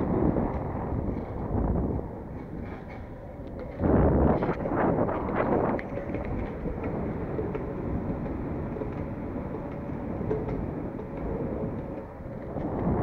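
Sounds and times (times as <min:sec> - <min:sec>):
longboard wheels rolling on concrete: 0:00.0 - 0:13.0.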